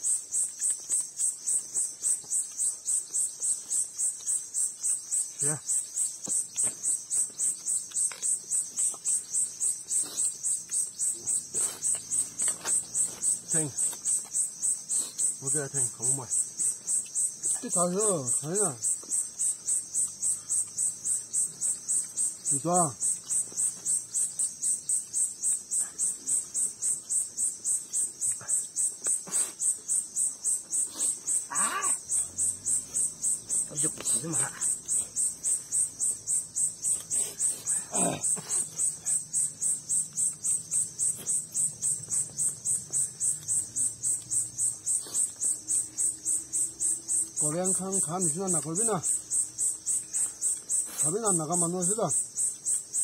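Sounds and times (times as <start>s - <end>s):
insect chirping pulse: 0.0s - 53.0s.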